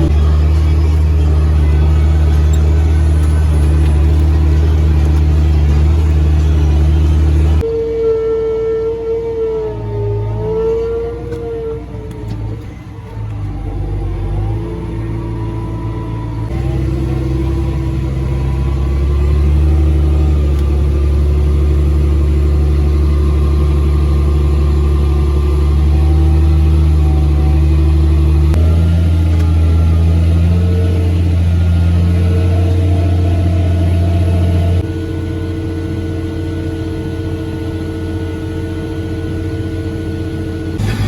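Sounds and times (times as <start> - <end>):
tractor engine droning under load: 0.0 - 41.0.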